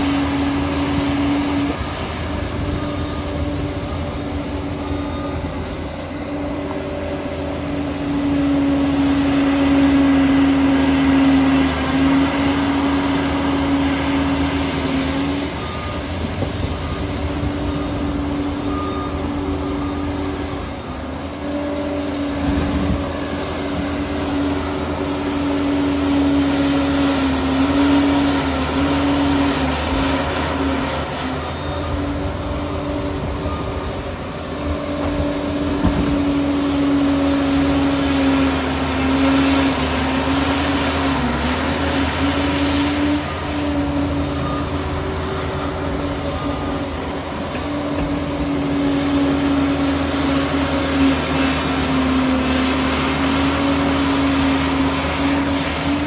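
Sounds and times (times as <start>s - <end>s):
diesel engine whining under load: 0.0s - 56.0s.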